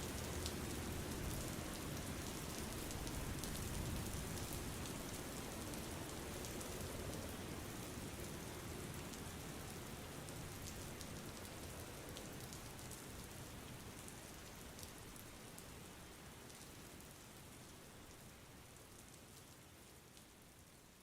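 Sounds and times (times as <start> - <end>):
steady rain hiss: 0.0 - 21.0
fine raindrop ticks: 0.1 - 7.4, 9.0 - 15.7, 16.4 - 20.4.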